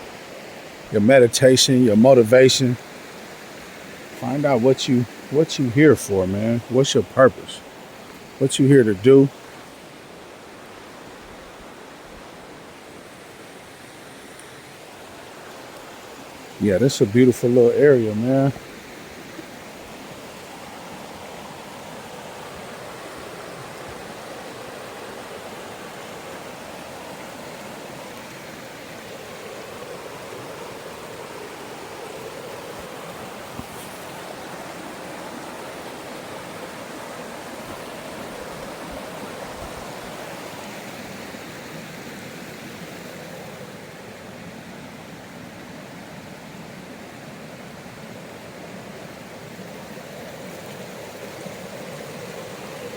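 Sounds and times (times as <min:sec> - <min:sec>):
mountain stream running: 0:00.0 - 0:52.9.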